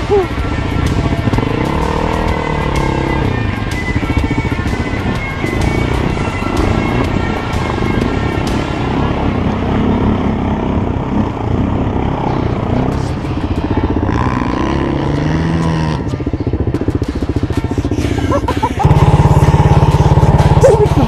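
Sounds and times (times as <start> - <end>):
engine revving up and down: 0.0 - 16.4, 18.3 - 21.0
quad bike engines running: 0.0 - 21.0.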